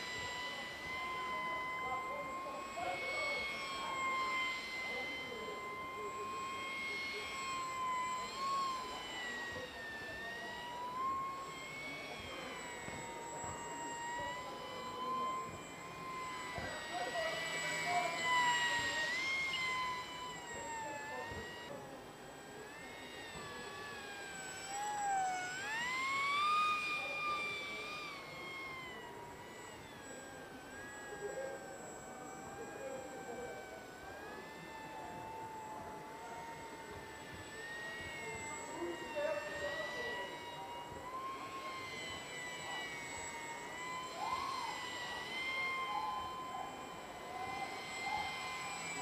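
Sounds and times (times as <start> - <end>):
model plane motor whine: 0.0 - 49.0.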